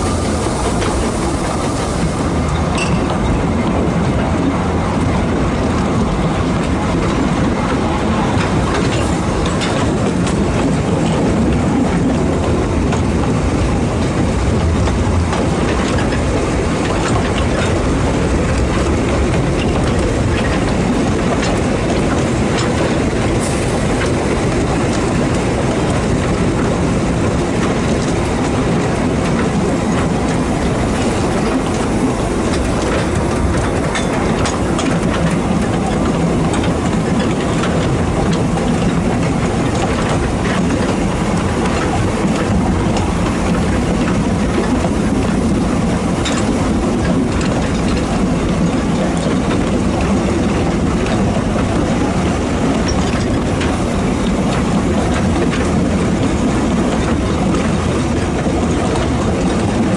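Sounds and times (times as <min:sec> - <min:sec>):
train running noise: 0:00.0 - 0:59.9
wheels clicking on rails: 0:00.0 - 0:59.9.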